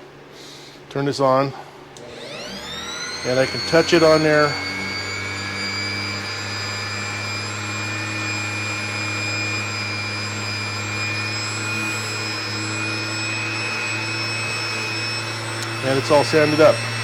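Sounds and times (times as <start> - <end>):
electric sander sanding wood: 2.0 - 17.0.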